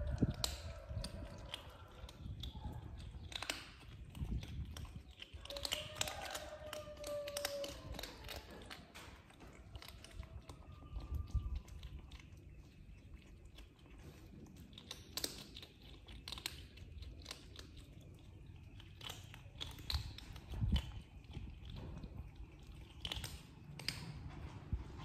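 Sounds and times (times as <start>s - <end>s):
kittens crunching dry kibble: 0.0s - 25.0s.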